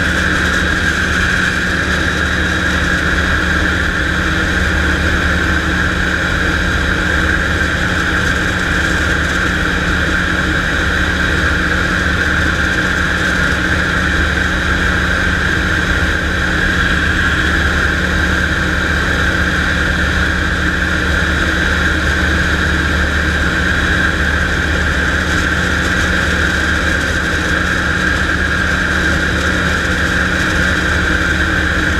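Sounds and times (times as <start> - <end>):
light aircraft engine and propeller: 0.0 - 31.9.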